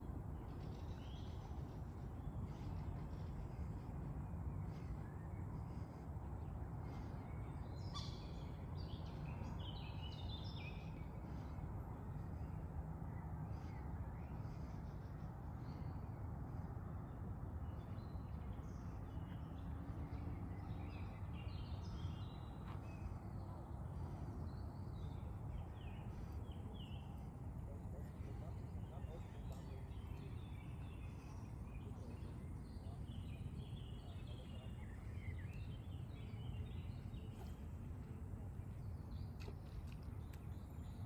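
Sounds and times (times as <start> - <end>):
birds calling and chirping: 0.0 - 16.7, 17.6 - 41.0
low outdoor rush: 0.0 - 41.0.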